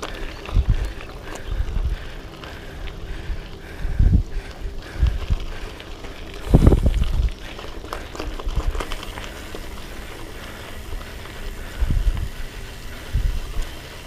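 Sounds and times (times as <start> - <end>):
bike rattling clicks: 0.0 - 14.0
bike tyres on gravel trail: 0.0 - 14.0.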